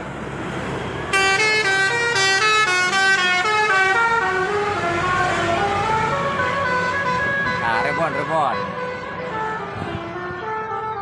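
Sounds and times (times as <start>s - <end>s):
bus musical horn playing a tune: 1.1s - 11.0s.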